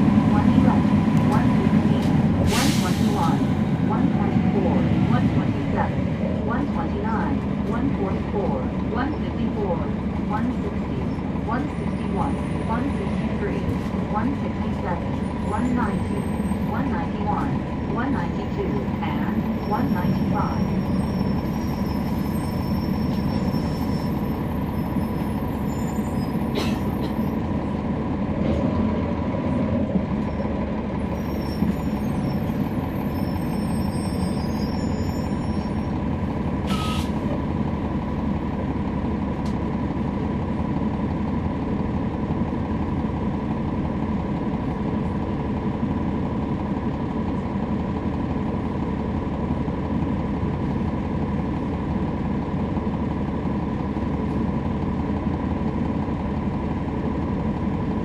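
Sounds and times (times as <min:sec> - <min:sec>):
bus engine low rumble: 0:00.0 - 0:58.0.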